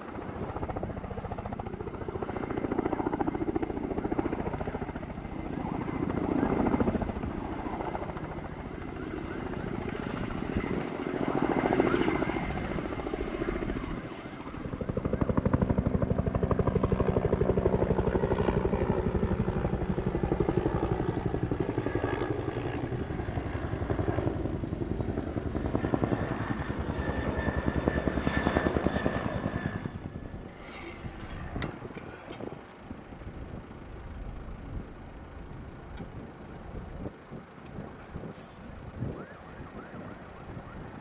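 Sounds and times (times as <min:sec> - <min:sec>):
helicopter rotor beating: 0:00.0 - 0:41.0.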